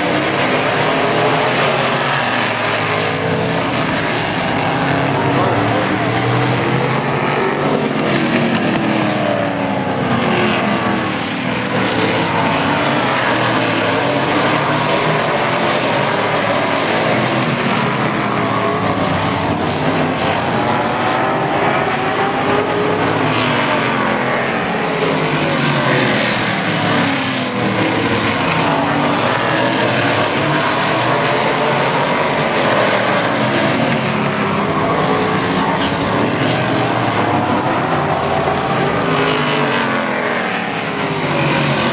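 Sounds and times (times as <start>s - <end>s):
race car engines passing: 0.0s - 41.9s.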